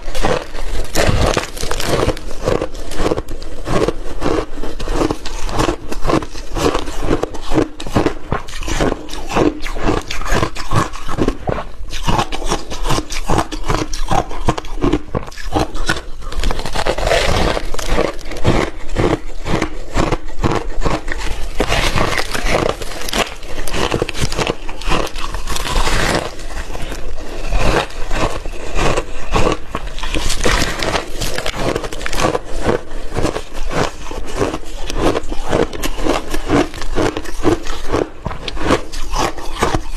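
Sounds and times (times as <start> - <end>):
crunching and chewing shaved ice: 0.0 - 39.9.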